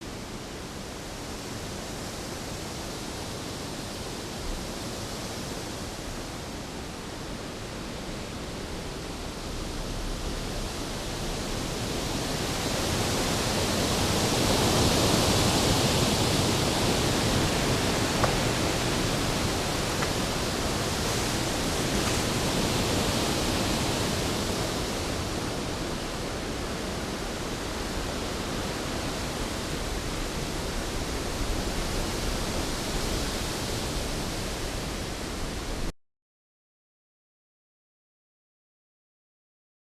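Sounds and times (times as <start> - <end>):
rain: 0.0 - 35.9.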